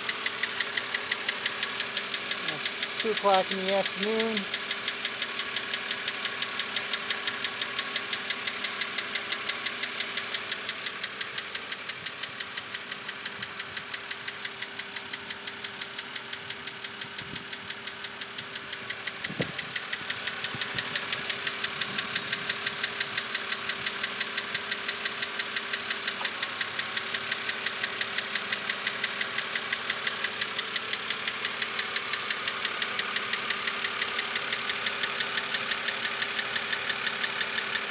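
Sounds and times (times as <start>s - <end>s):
car engine running: 0.0s - 37.9s
sharp regular engine knock: 0.0s - 37.9s.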